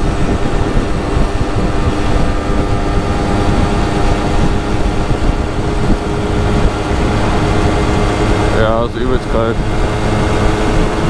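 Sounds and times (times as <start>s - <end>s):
moped engine running: 0.0s - 11.0s
wind on microphone: 0.0s - 11.0s.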